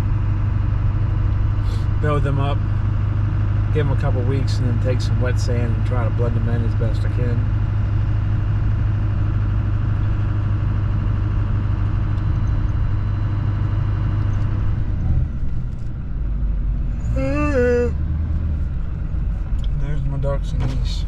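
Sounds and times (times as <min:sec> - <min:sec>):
diesel truck engine rumble: 0:00.0 - 0:21.0
road noise: 0:00.0 - 0:21.0.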